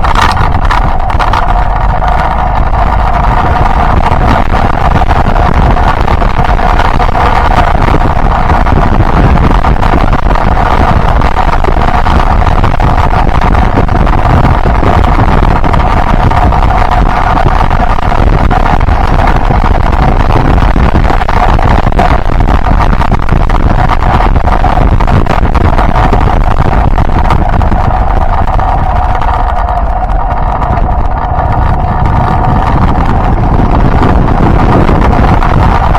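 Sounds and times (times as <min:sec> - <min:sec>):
motorcycle engine running: 0:00.0 - 0:35.9
wind noise on microphone: 0:00.0 - 0:35.9.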